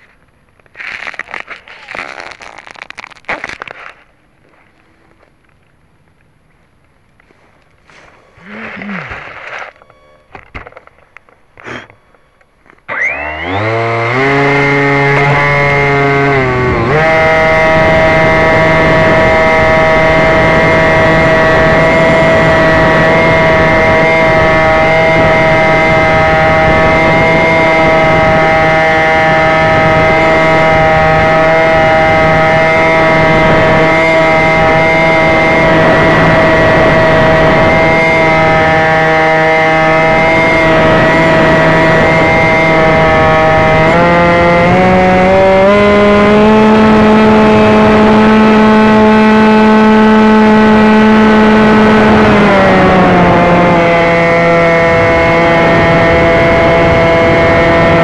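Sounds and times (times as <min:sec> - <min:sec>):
electric motor propeller whine: 0:07.2 - 0:58.0.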